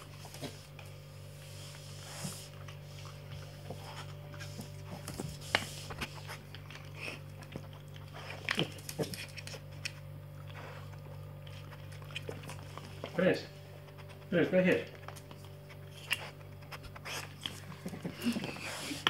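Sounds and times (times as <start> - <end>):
dog biting and chewing: 0.0 - 13.2, 15.0 - 19.0
steady low hum: 0.0 - 19.0.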